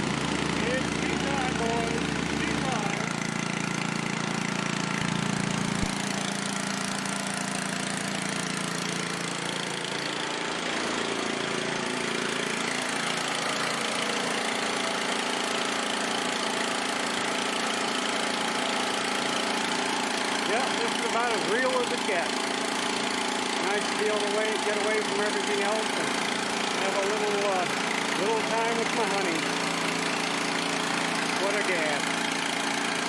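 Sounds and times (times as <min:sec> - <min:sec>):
single-cylinder engine running: 0:00.0 - 0:33.0.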